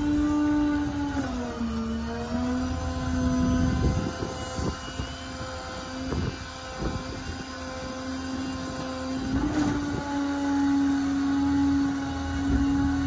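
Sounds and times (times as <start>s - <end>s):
hydraulic system whining: 0.0s - 13.0s.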